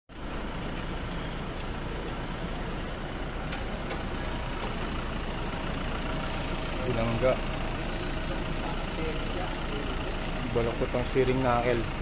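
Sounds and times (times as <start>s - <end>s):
workshop background rumble: 0.1s - 12.0s.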